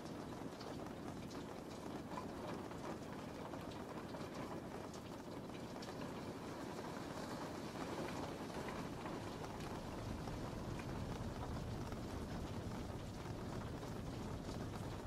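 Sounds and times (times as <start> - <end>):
raindrop taps: 0.0 - 15.0
steady rain: 0.0 - 15.0.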